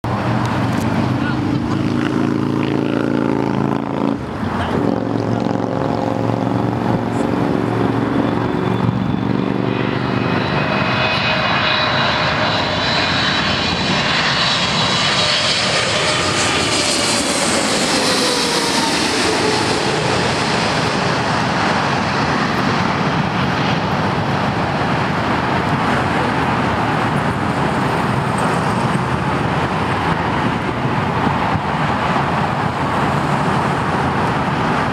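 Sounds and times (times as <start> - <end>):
jet engines roaring overhead: 0.0 - 34.9.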